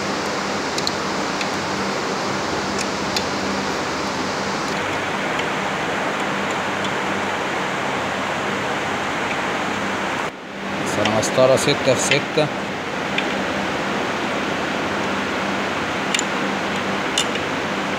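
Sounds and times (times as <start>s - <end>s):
fan-like hiss with low hum: 0.0s - 17.9s.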